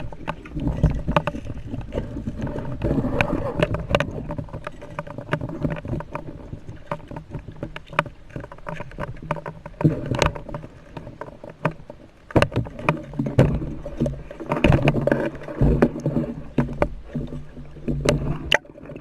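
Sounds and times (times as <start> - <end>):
sharp clicks and knocks: 0.0 - 19.0
water sloshing and splashing: 0.0 - 19.0.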